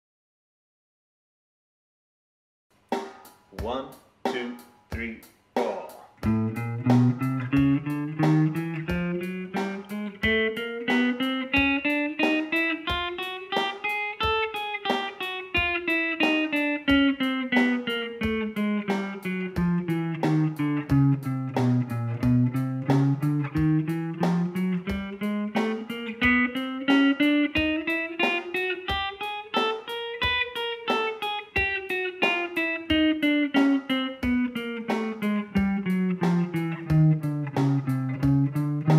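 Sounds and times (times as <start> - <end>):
electric guitar playing a scale: 6.1 - 38.9.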